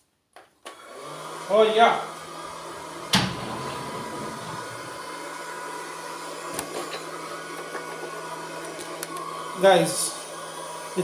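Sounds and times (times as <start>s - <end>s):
robot vacuum cleaner running: 0.7s - 11.0s.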